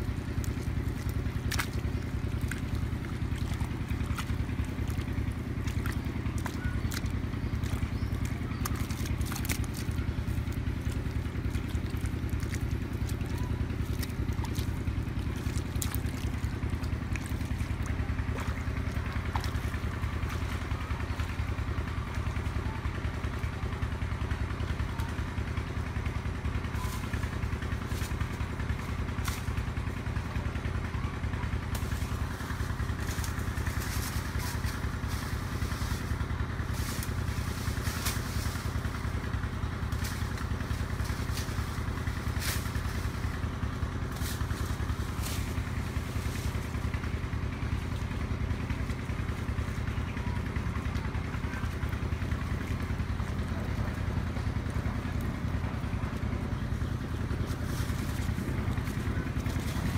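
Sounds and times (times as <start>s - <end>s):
small engine droning: 0.0s - 59.9s.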